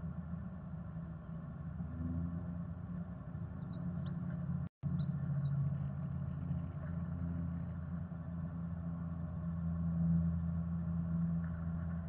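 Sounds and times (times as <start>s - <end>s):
low rumbling hum: 0.0s - 12.0s.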